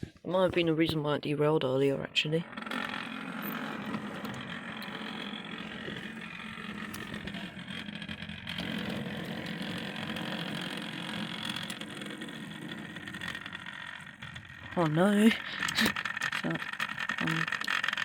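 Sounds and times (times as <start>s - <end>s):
model train motor humming on track: 2.3s - 18.0s.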